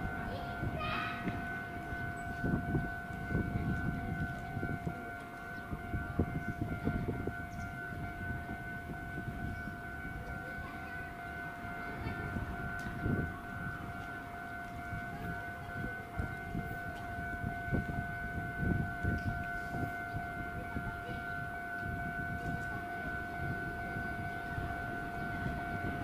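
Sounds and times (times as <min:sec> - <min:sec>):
electronic railway warning alarm: 0:00.0 - 0:26.0.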